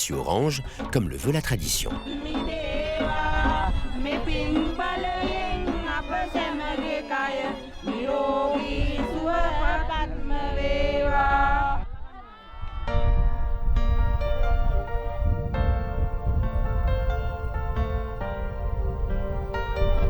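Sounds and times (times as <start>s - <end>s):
low musical accompaniment: 0.0s - 10.4s, 13.0s - 20.0s.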